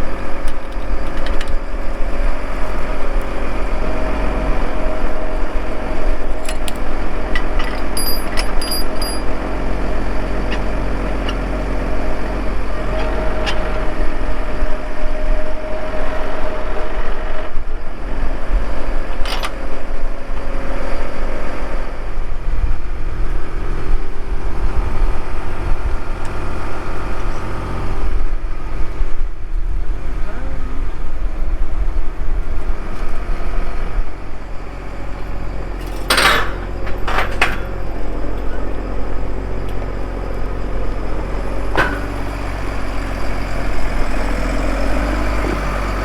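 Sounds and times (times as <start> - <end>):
vehicle engine running: 0.0 - 46.0.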